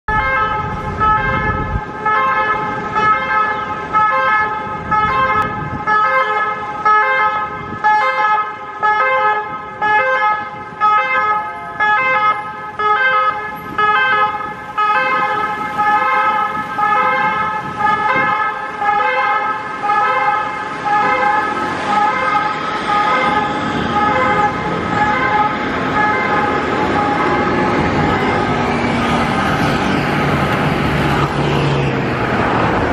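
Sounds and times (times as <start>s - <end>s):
road traffic noise: 0.0s - 32.9s
ambulance siren: 0.1s - 32.9s.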